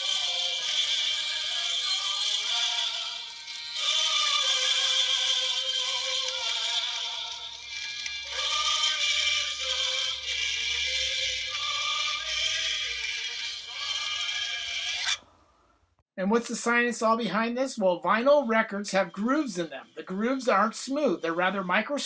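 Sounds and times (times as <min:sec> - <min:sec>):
record surface hiss: 0:00.0 - 0:22.0
thin vinyl record song: 0:00.0 - 0:22.0.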